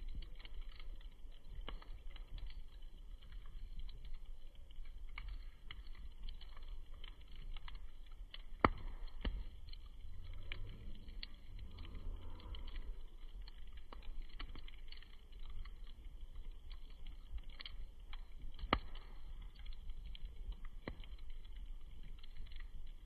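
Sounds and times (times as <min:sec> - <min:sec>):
campfire crackling: 0:00.0 - 0:23.0
loud fire snap: 0:00.0 - 0:23.0.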